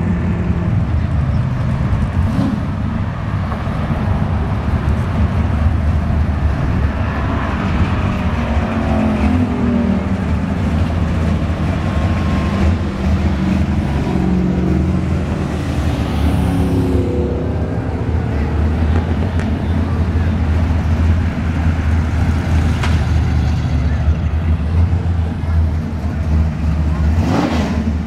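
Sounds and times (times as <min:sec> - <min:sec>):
car engines revving: 0:00.0 - 0:28.0
cars driving past: 0:00.0 - 0:28.0.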